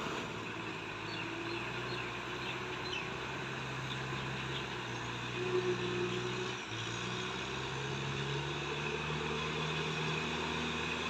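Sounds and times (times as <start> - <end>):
distant tractor engine drone: 0.0 - 11.0.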